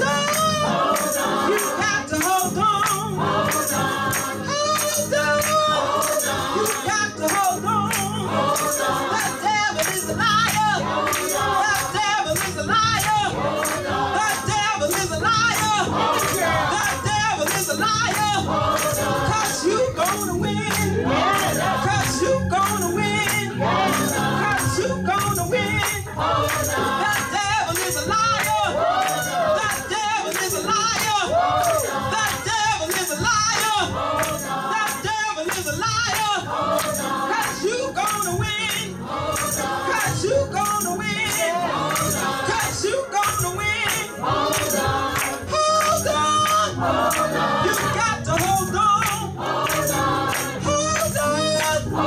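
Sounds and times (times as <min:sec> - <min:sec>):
choir singing gospel: 0:00.0 - 0:52.0
instrumental accompaniment: 0:00.0 - 0:52.0
shaken percussion beat: 0:00.0 - 0:52.0.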